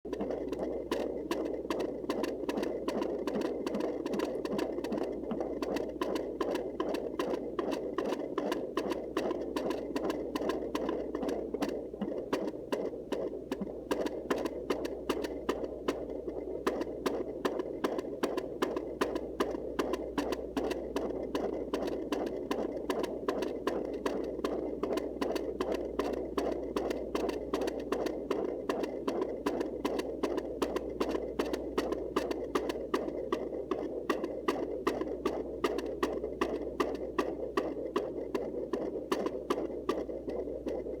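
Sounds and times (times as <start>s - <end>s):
low steady hum: 0.0s - 41.0s
fetal heartbeat whooshing pulse: 0.1s - 41.0s.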